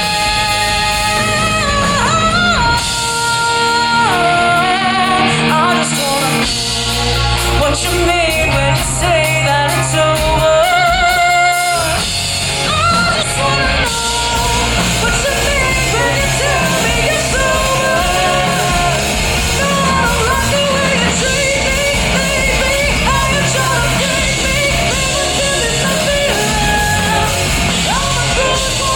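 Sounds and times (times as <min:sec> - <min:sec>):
person singing with vibrato: 0:00.0 - 0:28.9
rock band playing live: 0:00.0 - 0:28.9.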